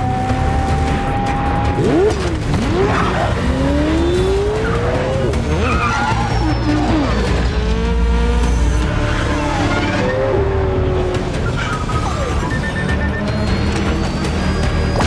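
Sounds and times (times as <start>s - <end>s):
car engines revving: 0.0s - 15.0s
low film music score: 0.0s - 15.0s
tyres skidding and squealing: 0.0s - 15.0s.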